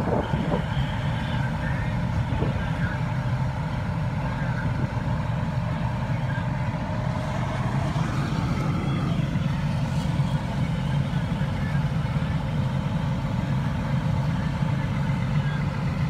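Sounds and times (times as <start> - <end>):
fire engine motor droning: 0.0 - 16.0.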